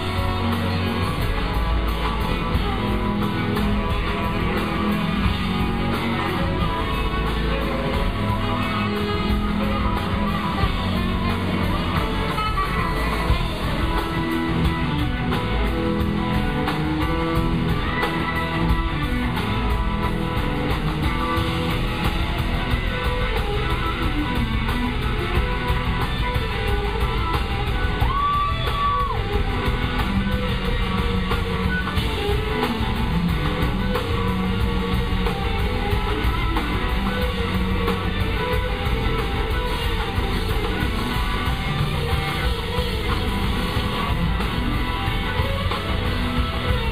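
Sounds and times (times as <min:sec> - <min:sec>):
electric guitar leading: 0:00.0 - 0:46.9
live rock band playing: 0:00.0 - 0:46.9.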